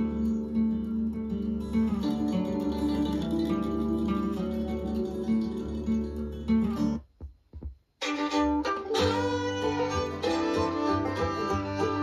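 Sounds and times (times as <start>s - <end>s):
plucked and bowed string music: 0.0s - 12.0s.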